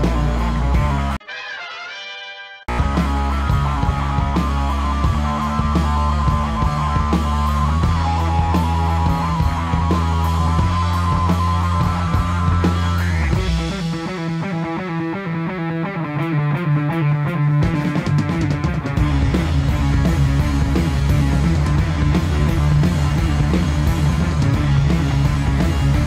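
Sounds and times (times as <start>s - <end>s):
instrumental rock music: 0.0s - 26.0s.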